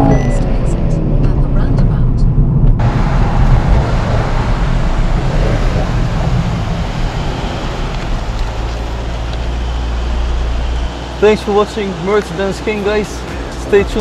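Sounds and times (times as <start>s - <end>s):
car engine idling: 0.0s - 14.0s
road noise: 0.0s - 14.0s.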